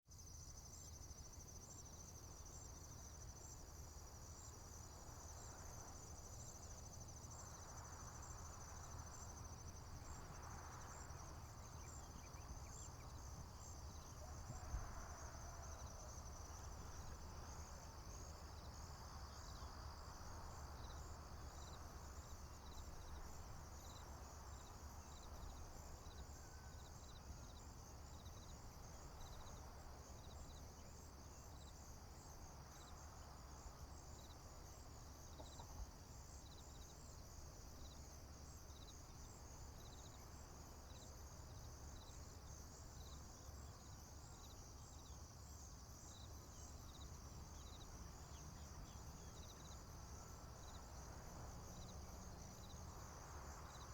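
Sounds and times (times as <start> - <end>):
crickets chirping: 0.1 - 53.9.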